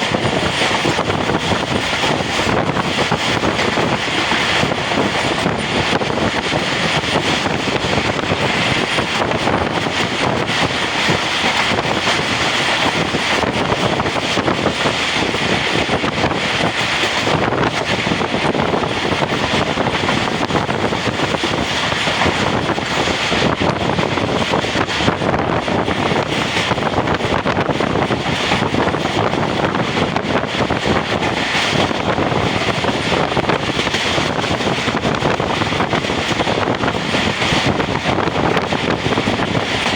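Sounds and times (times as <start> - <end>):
train wheel and wind noise: 0.0 - 39.9.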